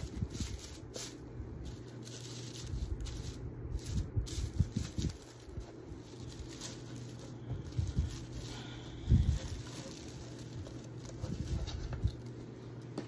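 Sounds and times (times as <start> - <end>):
craft materials rustling and knocking: 0.0 - 13.0
steady low hum: 0.0 - 13.0.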